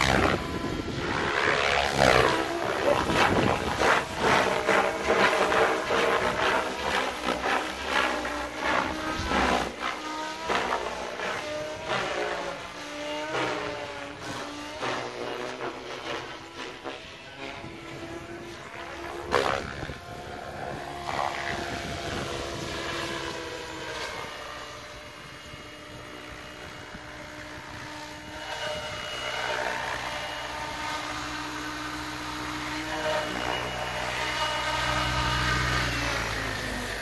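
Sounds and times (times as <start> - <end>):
rc helicopter motor and rotor whine: 0.0 - 37.0.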